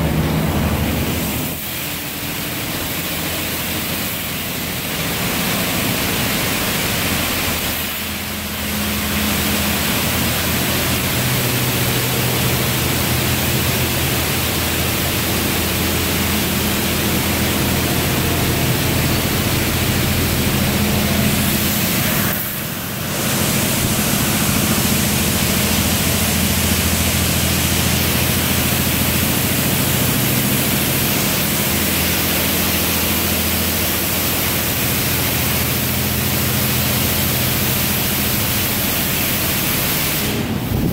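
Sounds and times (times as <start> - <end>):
high-pressure water spray hissing: 0.0 - 40.9
low pump hum: 0.0 - 40.9.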